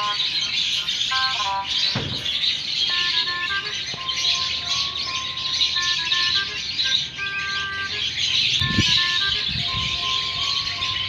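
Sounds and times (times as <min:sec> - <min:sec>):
simple electronic melody: 0:00.0 - 0:01.9, 0:02.8 - 0:11.0
birds chirping: 0:00.0 - 0:11.0.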